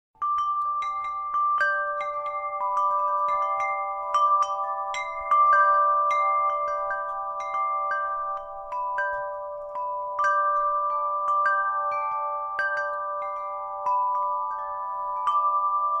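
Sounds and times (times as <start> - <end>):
bell-like mallet percussion melody: 0.2 - 16.0.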